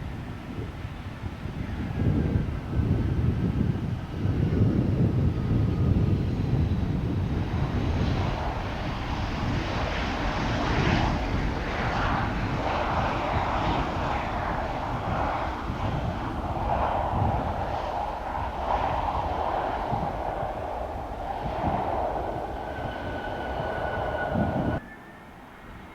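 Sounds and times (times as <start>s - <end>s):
jet airliner engines rushing: 0.0s - 25.9s.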